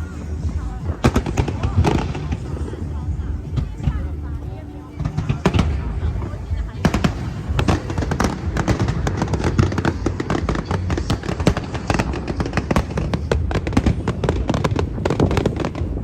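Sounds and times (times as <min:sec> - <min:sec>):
fireworks bangs and crackles: 0:00.0 - 0:16.0
low rumble: 0:00.0 - 0:16.0.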